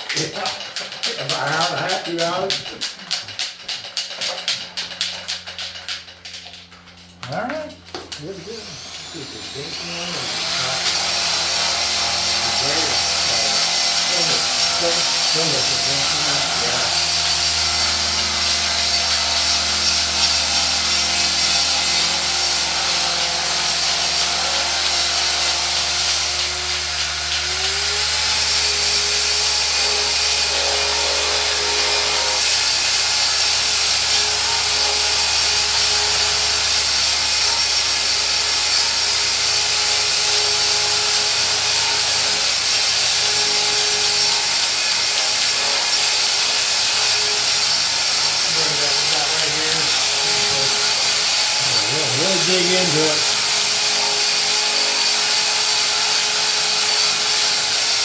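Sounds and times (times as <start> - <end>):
electric grinder grinding metal: 0.0 - 58.0.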